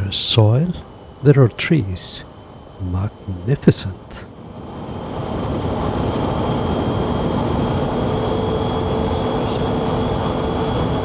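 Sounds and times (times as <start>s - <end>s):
rushing wind noise: 0.0s - 11.0s.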